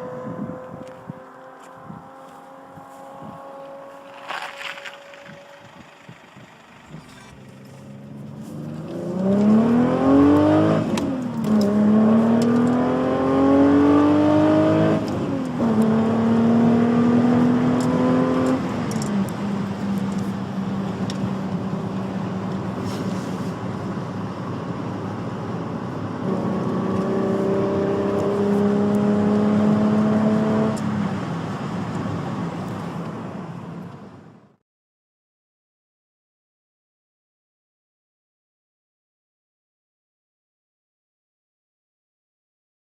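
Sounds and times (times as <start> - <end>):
car engine accelerating: 0.0 - 34.6.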